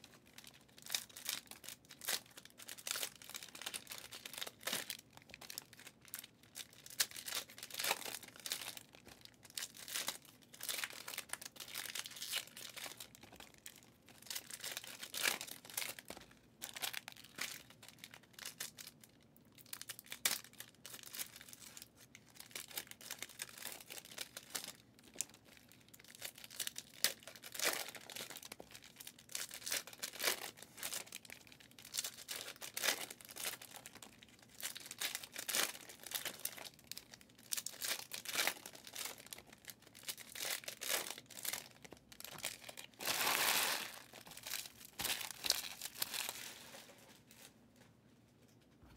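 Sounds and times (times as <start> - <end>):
foil wrappers crinkling and tearing: 0.0 - 47.5.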